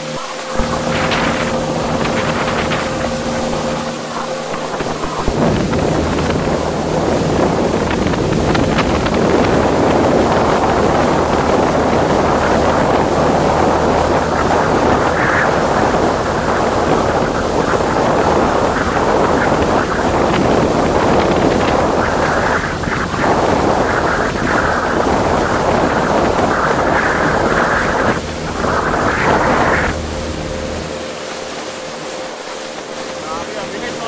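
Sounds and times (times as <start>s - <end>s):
boat engine hum: 0.0s - 34.0s
water rushing against boat hull: 0.0s - 34.0s
wind buffeting microphone: 0.0s - 34.0s.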